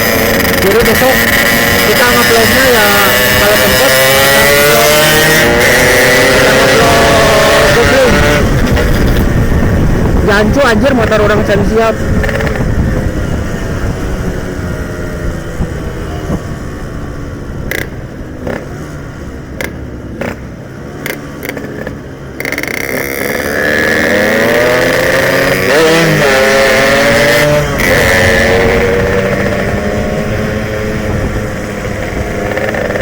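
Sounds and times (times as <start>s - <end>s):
two-stroke motorcycle engine revving: 0.0s - 33.0s.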